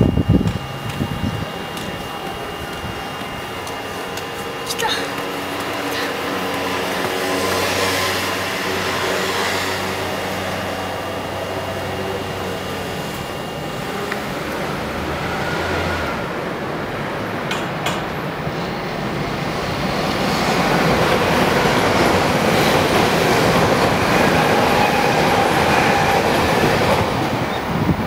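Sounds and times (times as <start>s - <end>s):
train running past: 0.0s - 28.0s.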